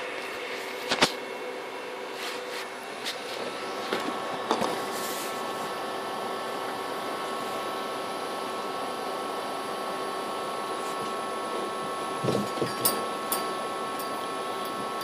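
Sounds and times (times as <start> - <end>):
machine hum and hiss: 0.0 - 15.0.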